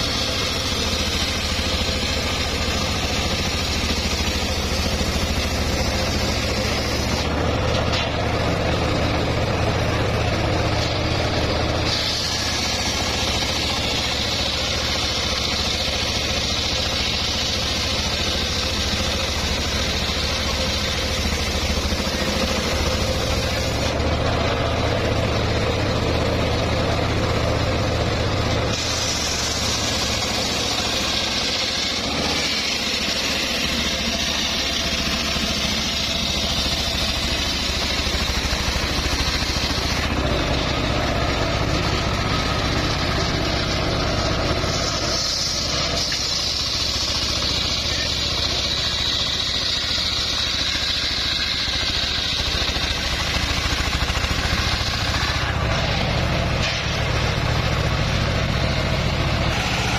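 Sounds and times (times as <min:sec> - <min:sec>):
saw blade cutting wood: 0:00.0 - 0:59.9.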